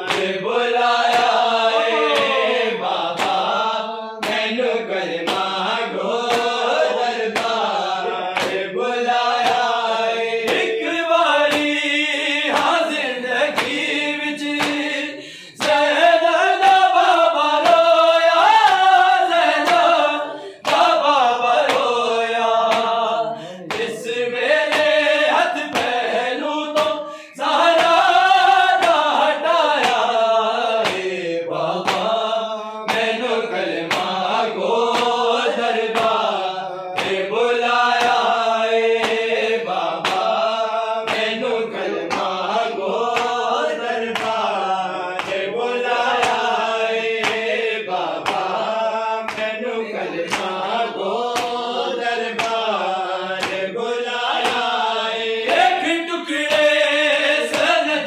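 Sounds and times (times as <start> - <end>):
men singing a devotional chant: 0.0 - 58.0
sharp rhythmic strikes: 0.0 - 58.0.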